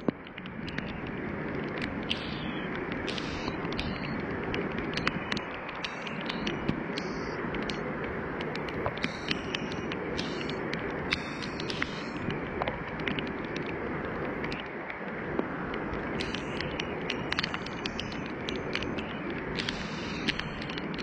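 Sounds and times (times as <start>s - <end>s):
rain and wind rushing: 0.0s - 21.0s
raindrops ticking: 0.0s - 21.0s.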